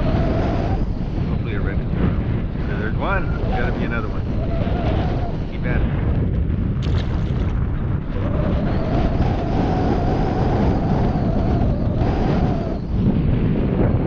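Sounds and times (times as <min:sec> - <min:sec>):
steady motor drone: 0:00.0 - 0:14.0
wind buffeting microphone: 0:00.0 - 0:14.0.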